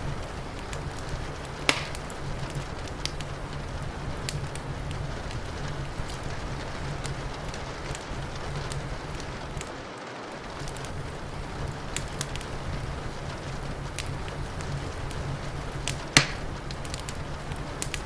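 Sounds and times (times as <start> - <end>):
low rumble: 0.0 - 9.8, 10.4 - 18.0
rain hissing: 0.0 - 18.0
wood fire crackling: 0.0 - 18.0.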